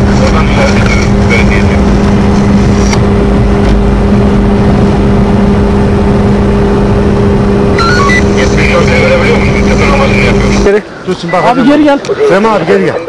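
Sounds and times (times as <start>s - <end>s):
car engine and road noise: 0.0s - 12.5s.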